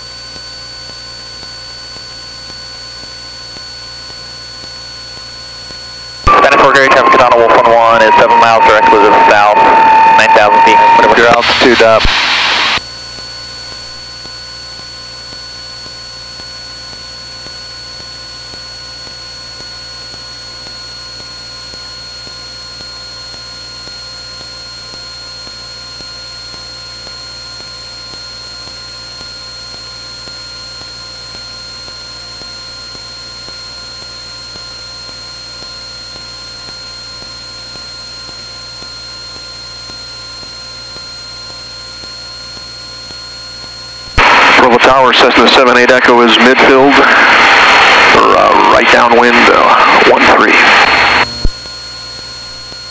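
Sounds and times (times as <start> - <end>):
thin high whine: 4.9 - 52.9.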